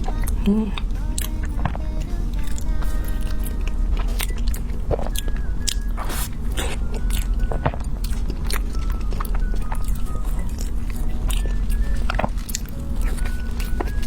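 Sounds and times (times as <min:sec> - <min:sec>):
chewing cake: 0:00.0 - 0:14.0.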